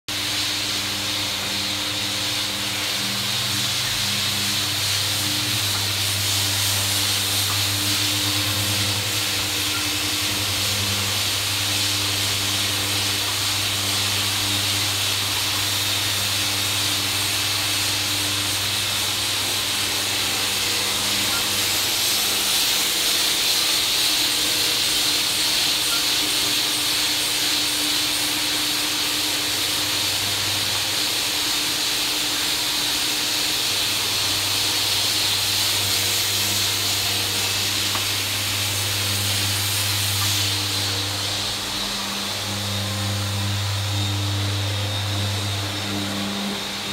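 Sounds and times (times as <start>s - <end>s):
floor sander running: 0.1s - 46.9s.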